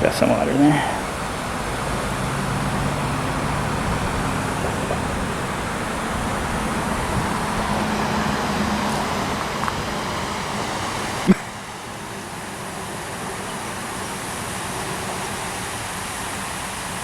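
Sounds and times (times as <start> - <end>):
passing vehicle engines: 0.0 - 17.0
road traffic noise: 0.0 - 17.0.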